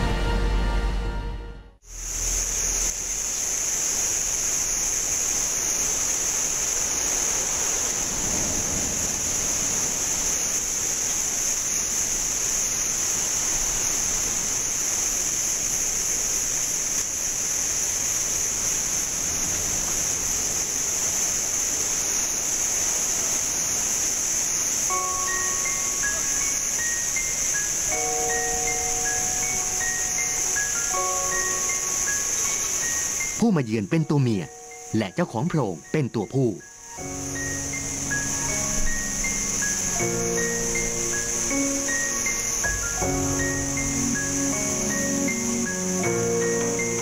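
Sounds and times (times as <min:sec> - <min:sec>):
rushing hiss: 0:01.9 - 0:33.4, 0:36.7 - 0:47.0.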